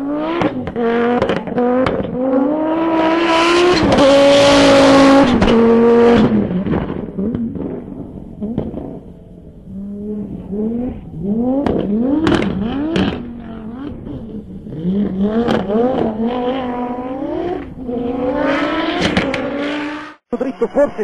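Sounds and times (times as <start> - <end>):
rally car engine revving: 0.0 - 20.2.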